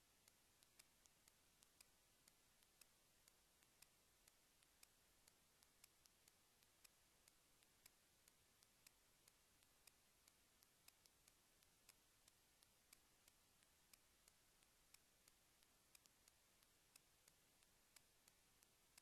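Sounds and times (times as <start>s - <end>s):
faint sharp ticks: 0.0s - 19.0s
low hiss: 0.0s - 19.0s.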